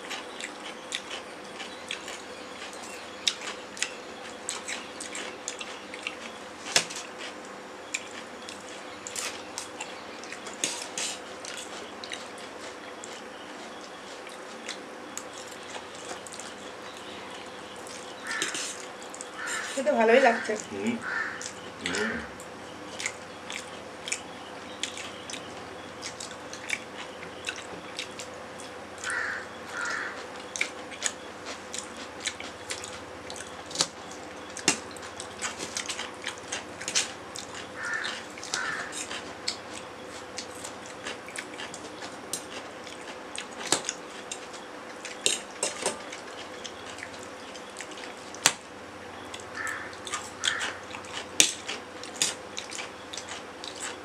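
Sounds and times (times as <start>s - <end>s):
wet chewing: 0.0s - 19.8s, 20.4s - 48.6s, 49.2s - 54.0s.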